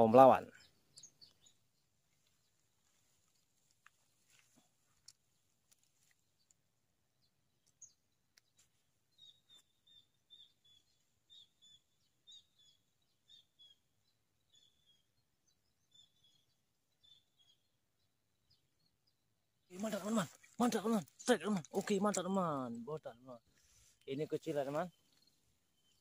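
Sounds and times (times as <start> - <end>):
faint high bird chirps: 0.0 - 26.0.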